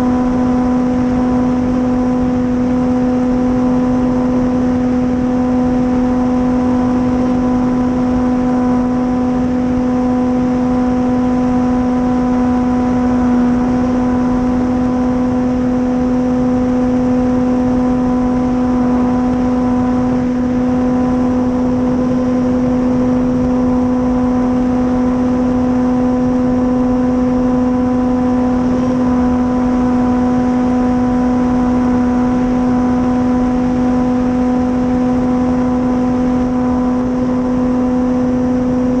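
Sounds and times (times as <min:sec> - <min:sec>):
electric motor and propeller hum: 0:00.0 - 0:39.0.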